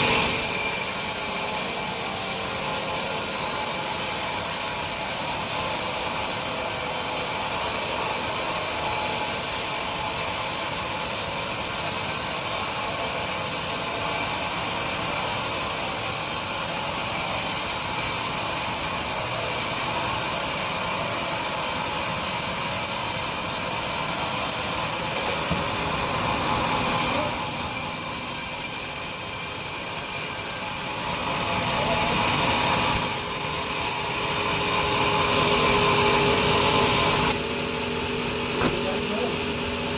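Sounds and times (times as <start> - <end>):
bandsaw cutting log: 0.0 - 37.4.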